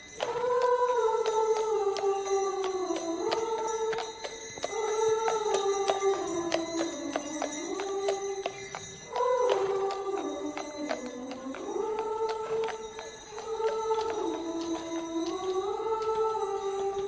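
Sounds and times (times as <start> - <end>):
high voice singing: 0.0 - 17.0
horse hooves on cobblestones: 0.0 - 17.0.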